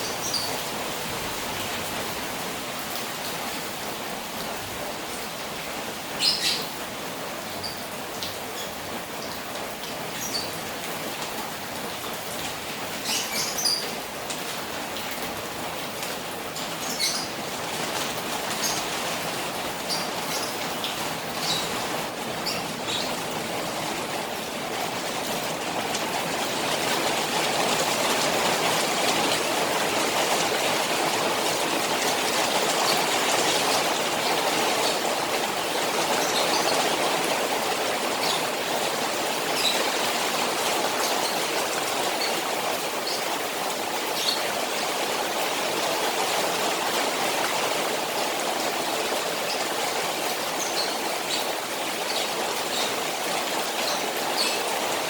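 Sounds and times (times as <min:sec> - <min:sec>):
rain falling on a pond: 0:00.0 - 0:55.0.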